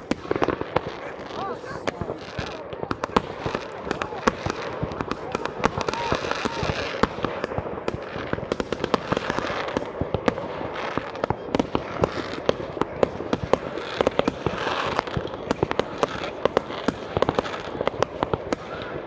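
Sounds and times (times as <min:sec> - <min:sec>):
fireworks bangs and cracks: 0:00.0 - 0:19.0
fireworks crackling hiss: 0:00.0 - 0:19.0.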